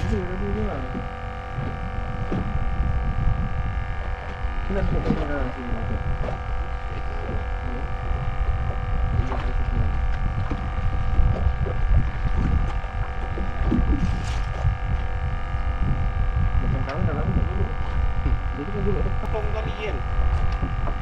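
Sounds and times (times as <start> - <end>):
low rumble: 0.0 - 21.0
steady tonal hum: 0.0 - 21.0.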